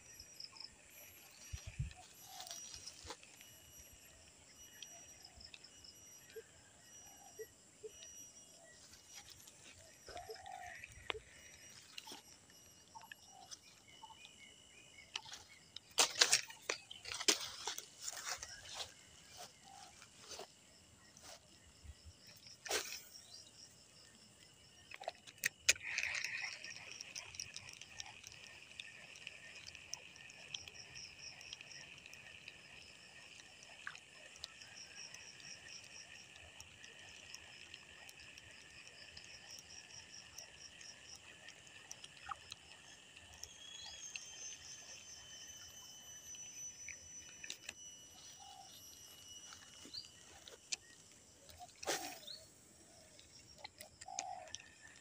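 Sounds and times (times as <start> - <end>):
chorus of frogs and insects: 0.0 - 55.0.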